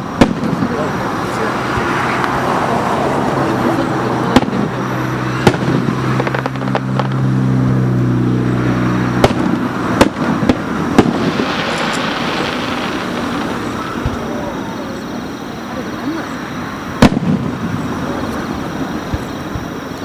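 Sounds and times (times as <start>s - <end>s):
fireworks bangs: 0.0s - 20.0s
outdoor background rumble: 0.0s - 20.0s.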